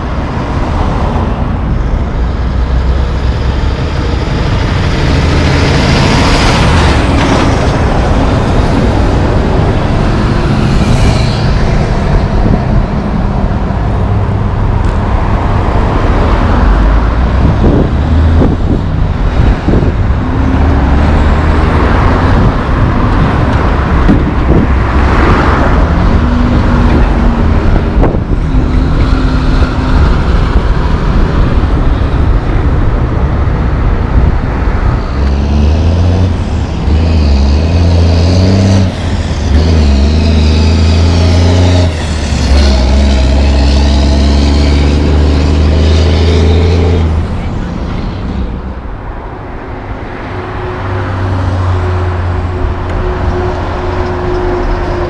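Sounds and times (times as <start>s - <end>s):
cars passing on highway: 0.0s - 55.0s
diesel truck engine pulling away: 2.3s - 49.3s.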